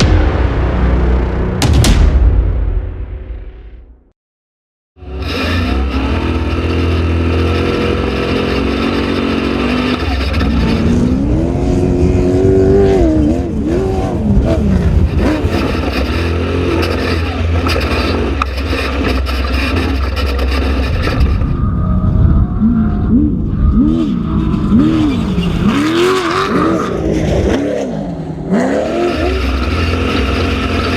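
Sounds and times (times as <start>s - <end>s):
race vehicle engine revving: 5.0s - 30.9s.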